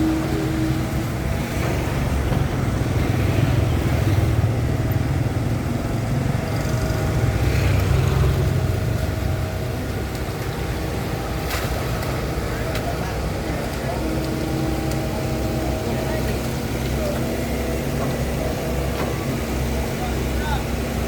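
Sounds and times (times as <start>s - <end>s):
excavator engine rumbling: 0.0s - 21.0s.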